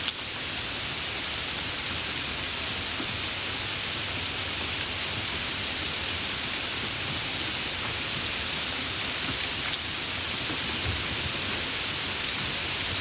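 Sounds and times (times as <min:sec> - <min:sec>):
gentle rain hiss: 0:00.0 - 0:13.0.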